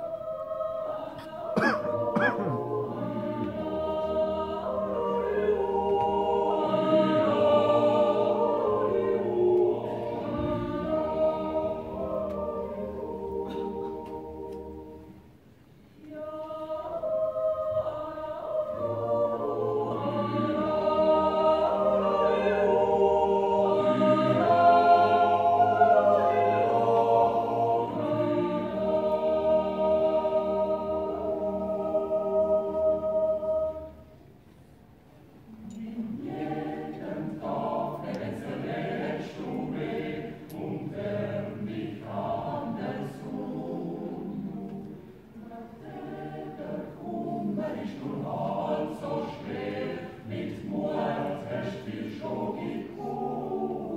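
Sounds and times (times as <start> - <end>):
choir yodeling a cappella: 0.0 - 53.9.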